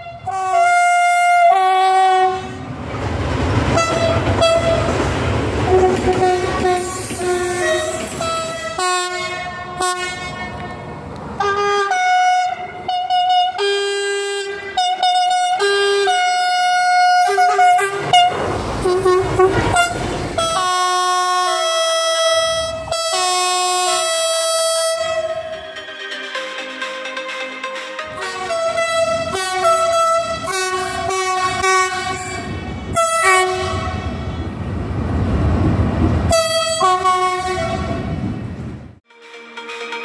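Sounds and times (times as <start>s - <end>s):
two-tone train horns: 0.0s - 2.8s, 3.7s - 34.7s, 36.3s - 38.4s, 39.0s - 40.0s
passing train rumble: 0.0s - 40.0s.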